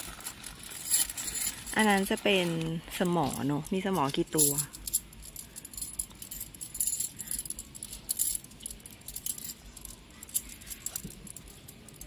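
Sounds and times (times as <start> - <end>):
metal tent pegs clinking: 0.0 - 12.0.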